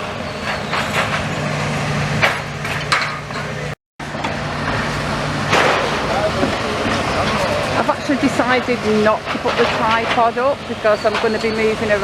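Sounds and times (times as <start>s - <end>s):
low engine hum: 0.0s - 12.0s
outdoor background noise: 0.0s - 12.0s.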